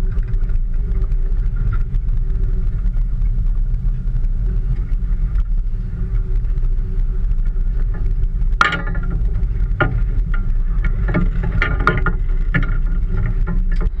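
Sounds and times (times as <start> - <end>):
fishing gear knocking and clattering: 0.0 - 14.0
wind and water against hull: 0.0 - 14.0.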